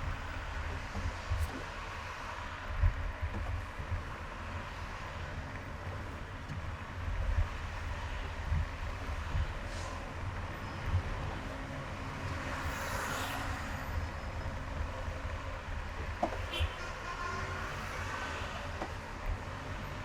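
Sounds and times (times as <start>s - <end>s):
car road noise on highway: 0.0s - 20.0s.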